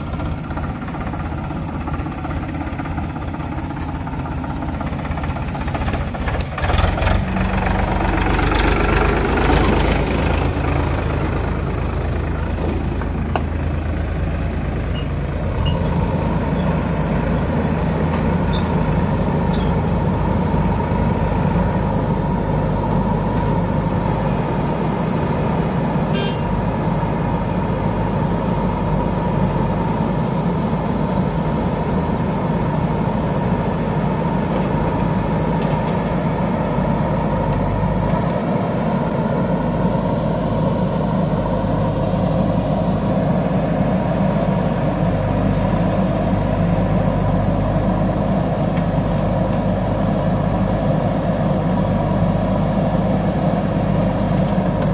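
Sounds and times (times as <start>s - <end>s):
diesel engines running: 0.0s - 54.9s
high engine whine: 0.0s - 54.9s.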